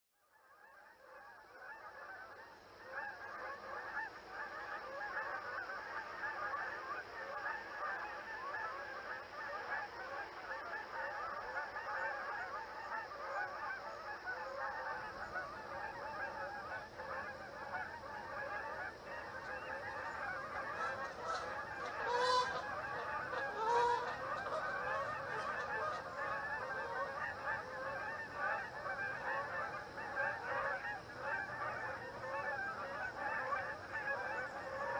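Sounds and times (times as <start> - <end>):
geese honking: 0.3 - 34.9.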